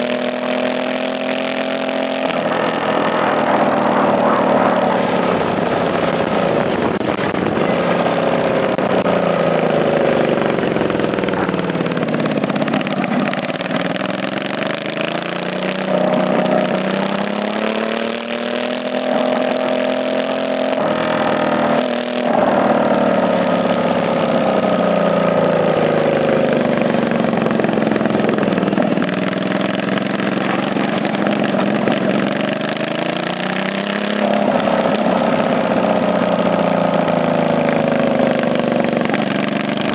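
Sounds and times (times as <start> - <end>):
racing lawn mower engine: 0.0 - 39.9.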